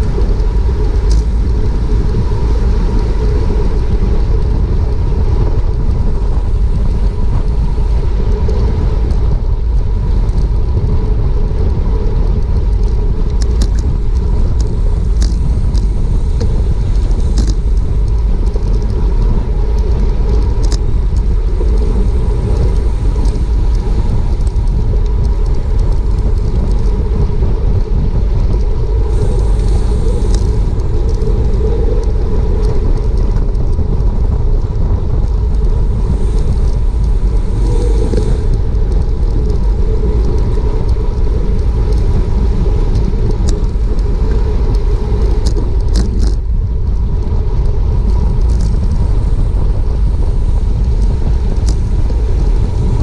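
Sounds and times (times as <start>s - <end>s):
scattered ticks: 0.0s - 53.0s
tyre and road noise: 0.0s - 53.0s
wind buffeting microphone: 0.0s - 53.0s.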